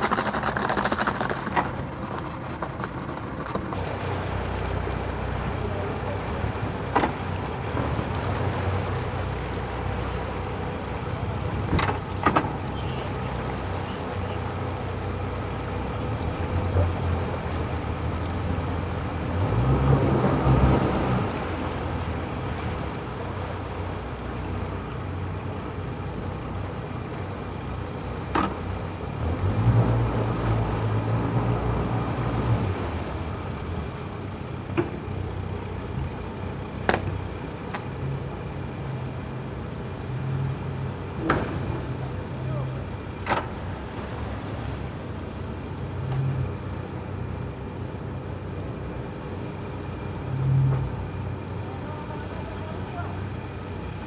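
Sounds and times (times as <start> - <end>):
motorboat engines idling: 0.0 - 54.0.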